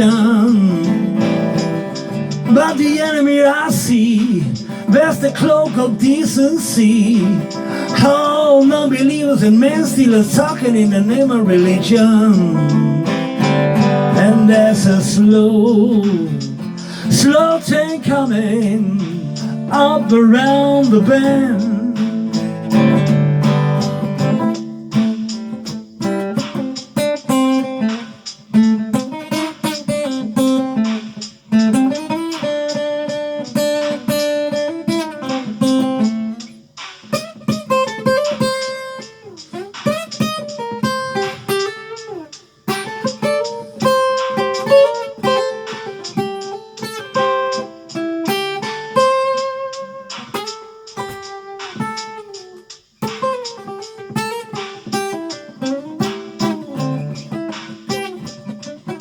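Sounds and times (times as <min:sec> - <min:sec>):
guitar instrumental: 0:00.0 - 0:59.0.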